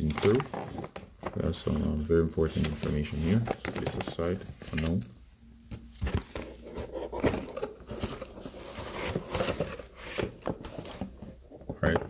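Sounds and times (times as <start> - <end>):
cardboard and paper rustling: 0.0 - 5.0, 5.8 - 12.0.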